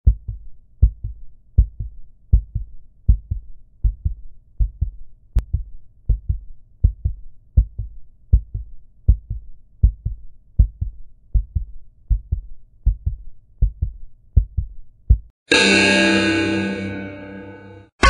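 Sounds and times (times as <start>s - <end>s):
heartbeat thumps: 0.0s - 15.3s.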